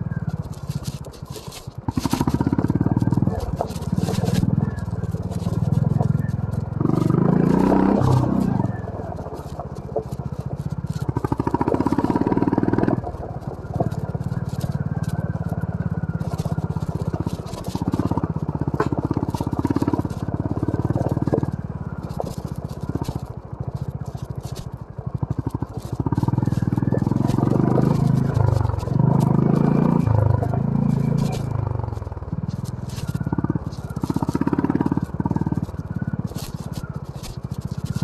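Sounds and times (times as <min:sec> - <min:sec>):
motorcycle engine revving: 0:00.0 - 0:38.0
motorcycle knocks and rattles: 0:00.0 - 0:38.0.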